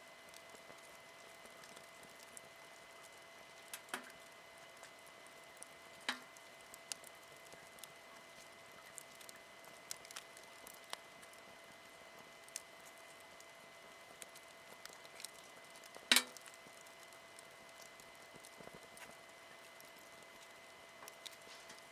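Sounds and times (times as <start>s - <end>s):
campfire crackling and popping: 0.2s - 21.9s.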